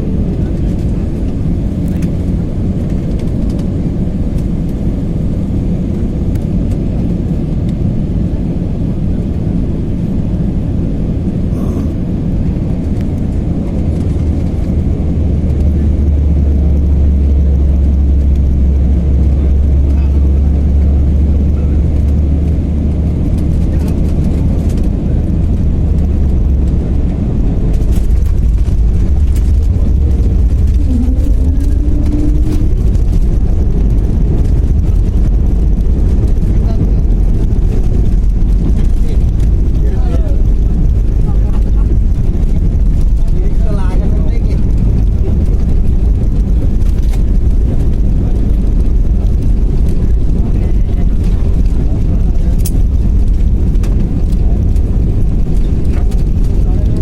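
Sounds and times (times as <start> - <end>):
airliner engine and airflow rumble: 0.0 - 57.0.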